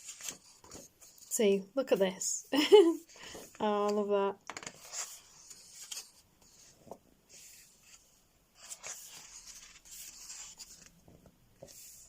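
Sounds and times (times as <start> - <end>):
paper pages rustling: 0.0 - 1.3, 3.2 - 12.0.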